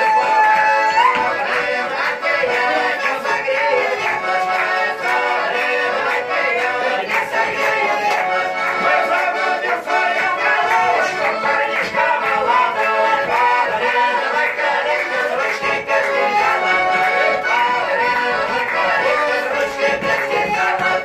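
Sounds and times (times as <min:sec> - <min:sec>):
accordion folk dance tune: 0:00.0 - 0:21.0.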